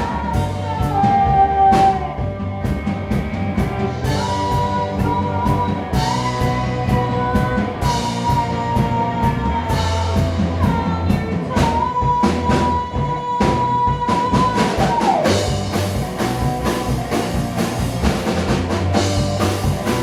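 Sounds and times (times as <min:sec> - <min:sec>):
bass line: 0:00.0 - 0:20.0
drum kit beat: 0:00.0 - 0:20.0
live rock band playing: 0:00.0 - 0:20.0.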